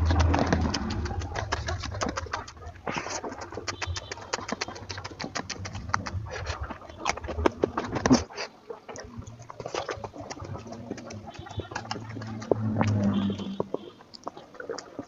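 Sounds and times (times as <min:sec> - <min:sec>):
wet chewing and mouth smacking: 0:00.0 - 0:15.0.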